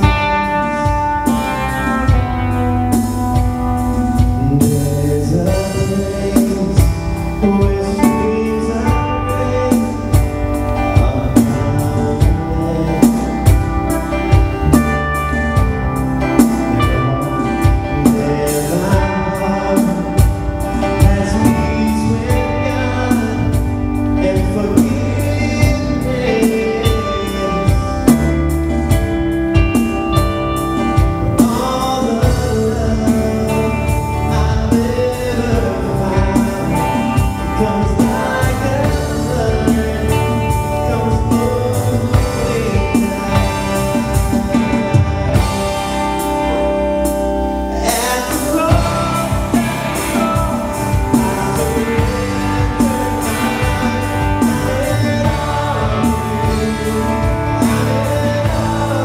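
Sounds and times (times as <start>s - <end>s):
bass guitar: 0.0s - 59.0s
drum kit beat: 0.0s - 59.0s
person singing: 0.0s - 59.0s
strummed acoustic guitars: 0.0s - 59.0s.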